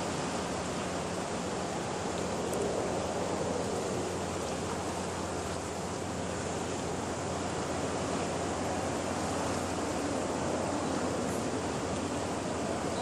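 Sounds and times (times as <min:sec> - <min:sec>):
surf washing on rocky shore: 0:00.0 - 0:13.0.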